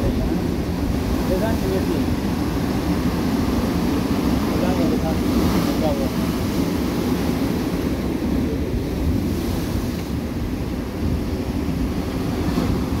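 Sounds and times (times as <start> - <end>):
sea surf breaking on shore: 0.0 - 13.0
wind buffeting microphone: 0.0 - 13.0.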